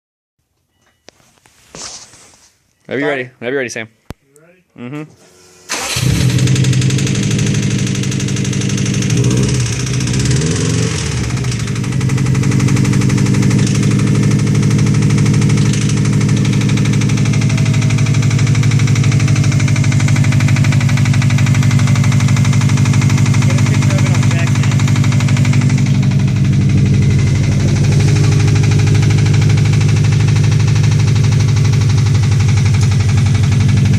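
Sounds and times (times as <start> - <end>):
car engine knocking: 6.5 - 33.9.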